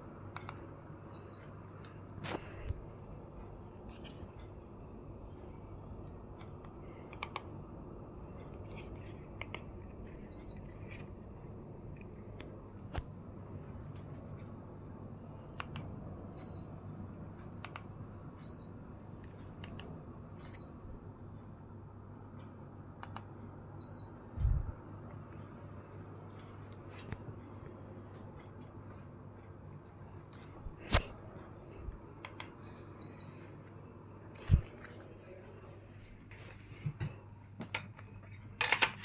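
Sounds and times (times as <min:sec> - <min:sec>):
air conditioner humming: 0:00.0 - 0:39.0.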